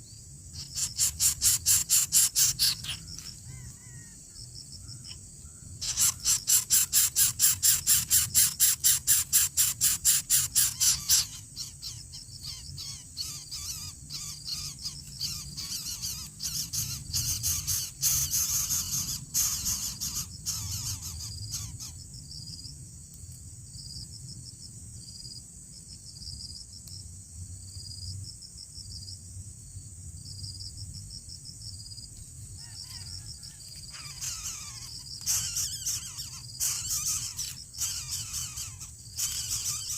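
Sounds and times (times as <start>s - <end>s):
fast pulsing insect call: 0.0s - 22.7s, 30.6s - 39.9s
insects droning: 0.0s - 39.9s.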